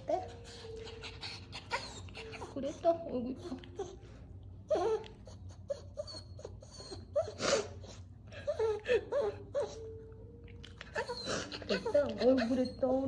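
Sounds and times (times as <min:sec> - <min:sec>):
dog whimpering: 0:00.0 - 0:13.0.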